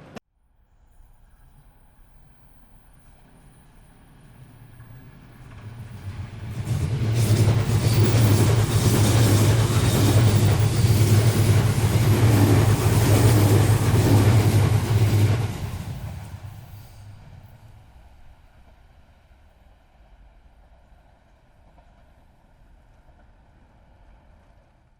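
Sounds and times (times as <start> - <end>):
train passing with rattling: 2.7 - 24.9.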